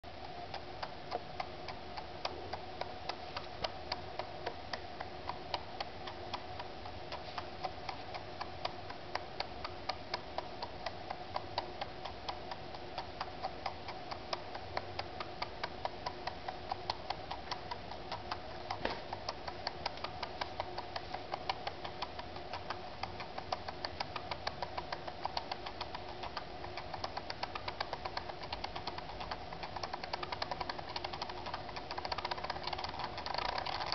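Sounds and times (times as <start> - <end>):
steady motor hum: 0.1 - 33.9
stepper motor clicking: 0.2 - 33.9.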